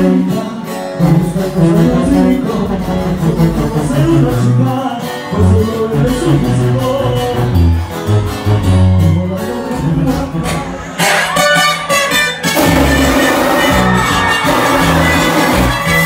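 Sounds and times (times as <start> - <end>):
band music with acoustic guitar: 0.0 - 16.0
deep bass line: 1.0 - 11.4, 12.4 - 16.0.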